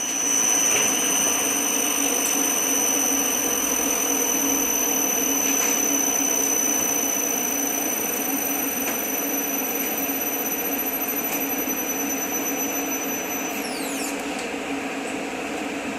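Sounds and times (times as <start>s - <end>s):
electric motor hum: 0.0s - 14.2s
high-pitched motor whines: 0.0s - 14.4s.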